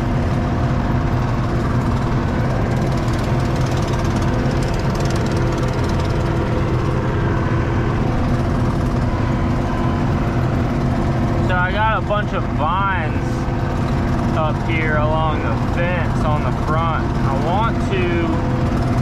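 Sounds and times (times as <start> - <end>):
diesel engine running steadily: 0.0 - 19.0.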